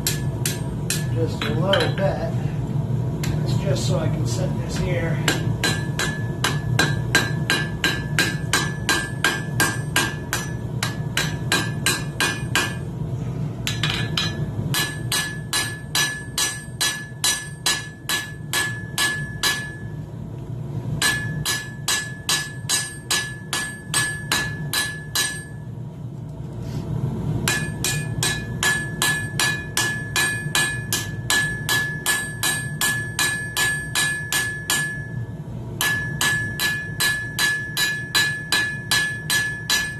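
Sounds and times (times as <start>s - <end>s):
hammer striking steel on anvil: 0.0s - 2.1s, 4.8s - 12.9s, 13.6s - 19.9s, 21.0s - 25.7s, 27.4s - 39.9s
steady low hum: 0.0s - 39.9s.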